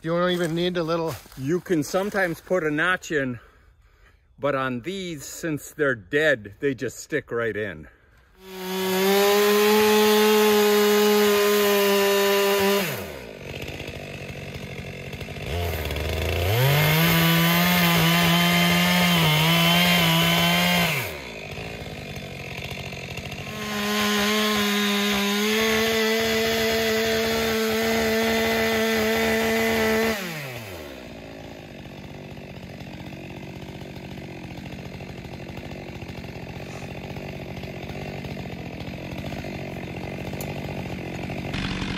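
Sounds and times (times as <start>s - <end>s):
chainsaw revving and idling: 0.0s - 3.6s, 7.2s - 41.9s
chainsaw cutting wood: 8.1s - 41.9s.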